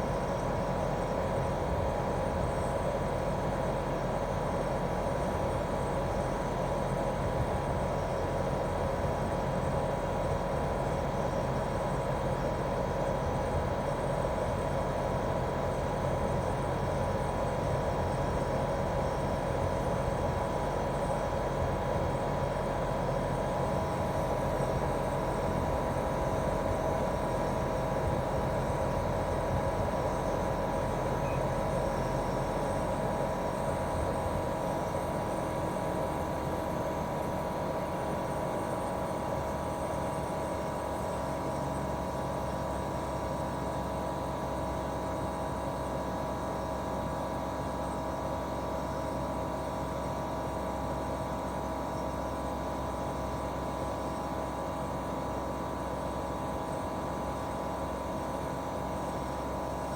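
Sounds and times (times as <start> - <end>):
air conditioner unit humming: 0.0 - 59.9.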